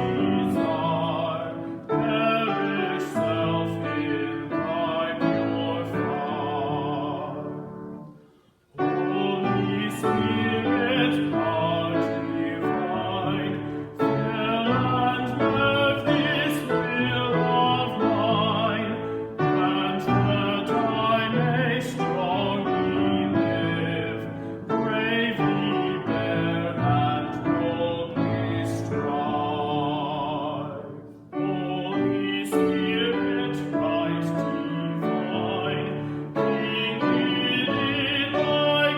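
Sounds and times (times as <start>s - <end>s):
person singing with vibrato: 0.0s - 38.9s
piano: 0.0s - 38.9s.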